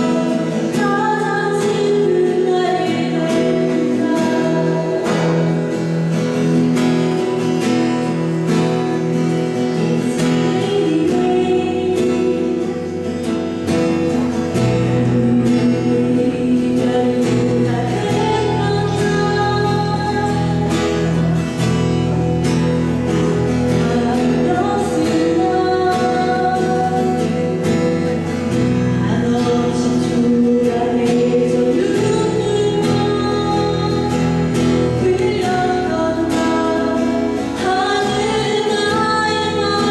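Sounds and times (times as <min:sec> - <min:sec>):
acoustic guitar: 0:00.0 - 0:39.9
person singing: 0:00.0 - 0:39.9.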